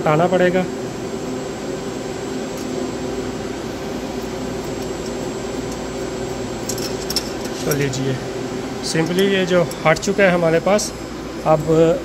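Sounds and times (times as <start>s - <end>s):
equipment fans whirring: 0.0s - 12.0s.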